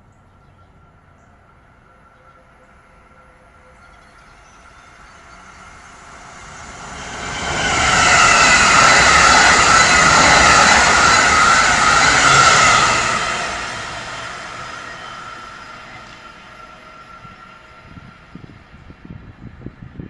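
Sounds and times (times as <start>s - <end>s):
high whine: 0.0s - 19.3s
train passing at speed: 0.0s - 20.0s.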